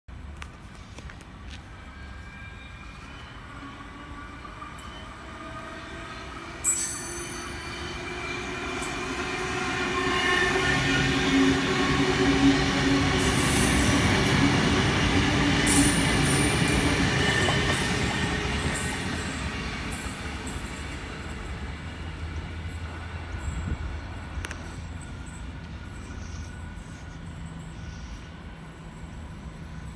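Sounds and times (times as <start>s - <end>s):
electric train passing: 0.2s - 29.9s
train whine: 0.3s - 29.9s.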